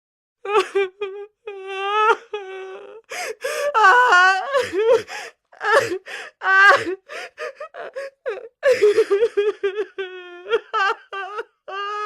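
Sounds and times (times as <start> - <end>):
woman sobbing and gasping: 0.4 - 12.0.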